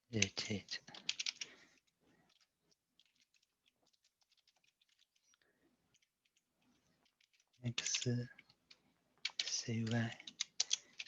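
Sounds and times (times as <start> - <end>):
keyboard typing: 0.2 - 6.4, 7.0 - 11.0.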